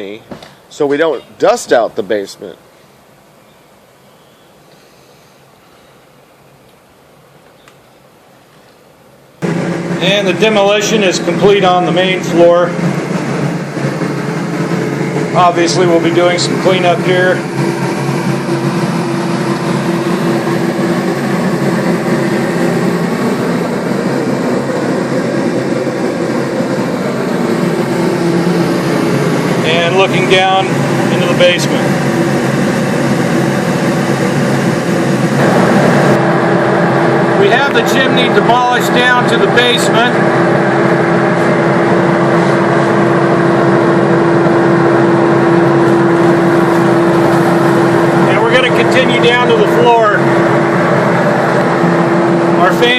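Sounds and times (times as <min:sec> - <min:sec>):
exhaust fan blowing: 0:00.0 - 0:52.9.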